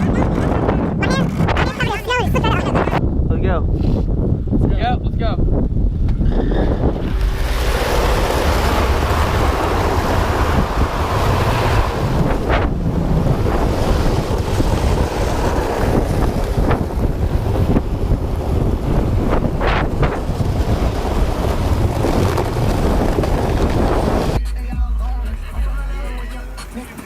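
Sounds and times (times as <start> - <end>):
wind buffeting microphone: 0.0 - 24.4.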